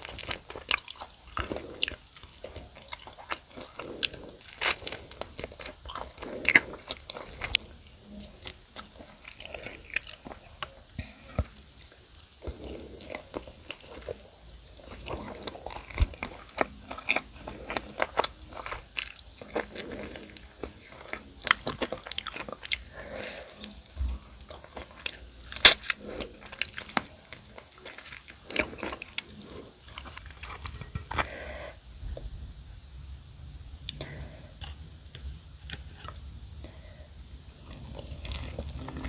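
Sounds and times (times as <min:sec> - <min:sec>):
crunching fried chicken: 0:00.0 - 0:31.7, 0:33.9 - 0:39.0
wet chewing: 0:00.0 - 0:31.7, 0:37.6 - 0:39.0.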